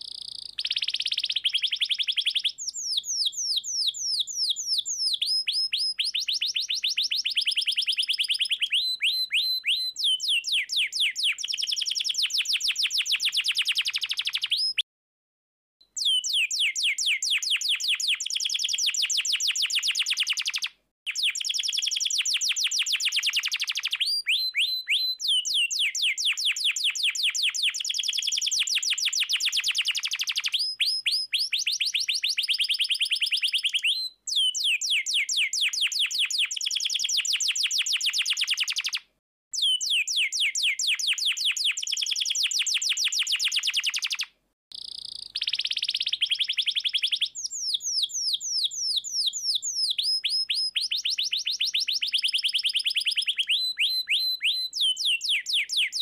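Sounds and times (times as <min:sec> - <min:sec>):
canary singing trills: 0:00.0 - 0:14.8, 0:16.0 - 0:39.0, 0:39.6 - 0:56.0.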